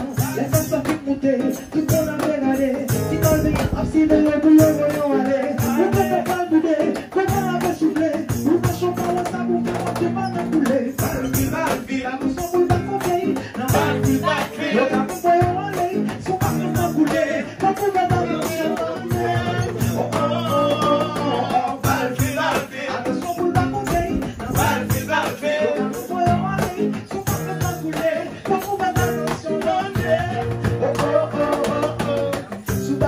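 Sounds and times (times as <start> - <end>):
classical guitar strumming: 0.0 - 33.0
man singing into microphone: 0.0 - 33.0.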